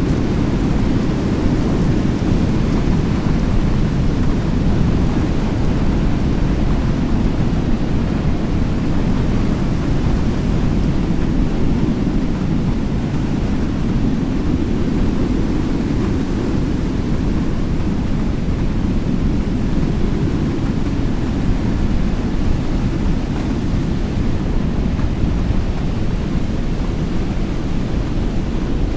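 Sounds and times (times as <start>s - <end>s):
storm wind on microphone: 0.0s - 28.9s.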